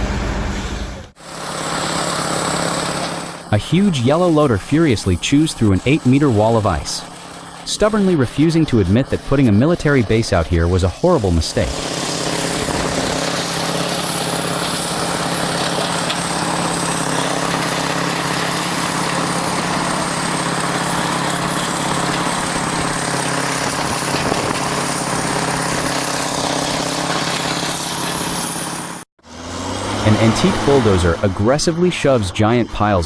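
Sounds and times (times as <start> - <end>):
loader engine running: 0.0 - 33.0
rushing noise of snow and ice: 0.0 - 33.0.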